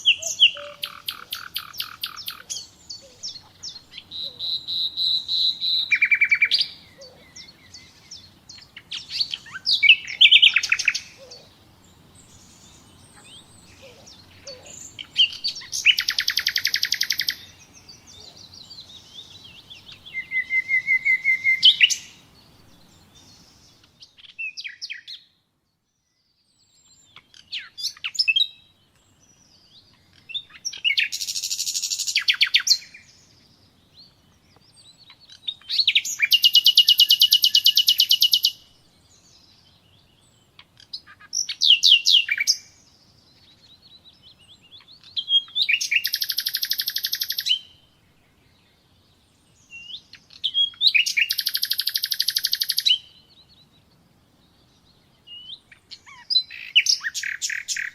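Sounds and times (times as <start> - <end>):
nightingale singing: 0.0 - 57.9.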